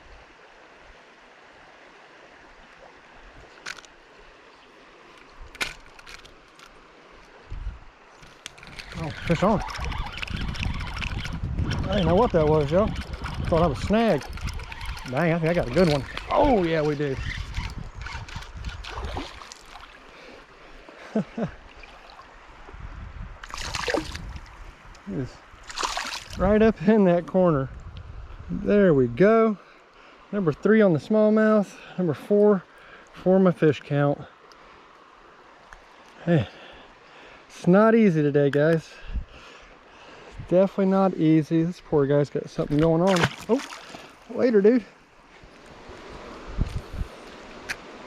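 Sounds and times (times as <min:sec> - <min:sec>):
creek water running: 0:00.0 - 0:48.0.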